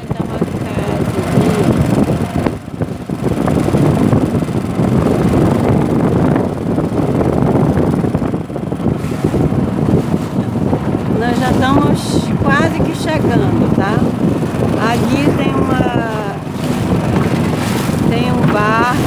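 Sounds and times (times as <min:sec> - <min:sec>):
boat moving across choppy water: 0:00.0 - 0:19.0
wind buffeting microphone: 0:00.0 - 0:19.0.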